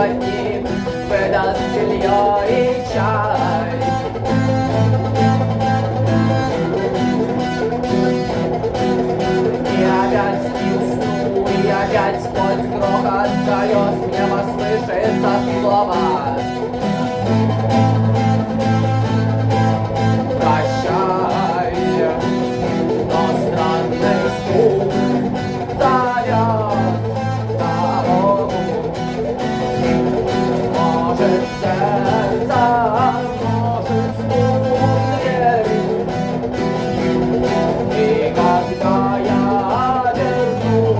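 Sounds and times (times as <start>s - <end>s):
guitar melody with bending notes: 0.0s - 40.9s.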